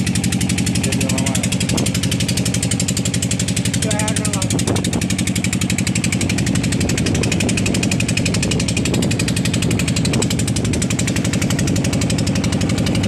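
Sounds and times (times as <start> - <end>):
boat engine knocking: 0.0 - 13.0.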